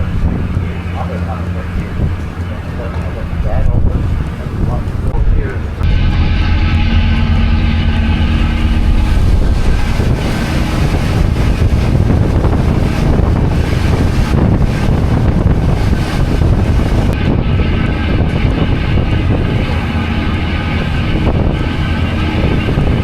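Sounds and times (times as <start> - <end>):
boat engines rumbling: 0.0 - 23.0
wind on microphone: 0.0 - 23.0.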